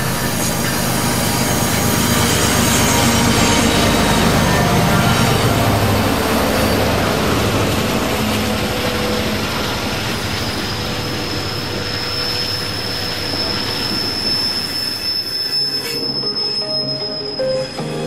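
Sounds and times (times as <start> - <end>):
freight train rumble: 0.0 - 18.0
train wheel squeal: 0.0 - 18.0.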